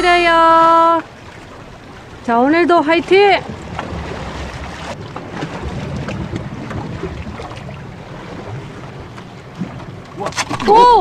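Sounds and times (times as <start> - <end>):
wind buffeting microphone: 0.0 - 11.0
waves washing against rocks: 0.2 - 11.0.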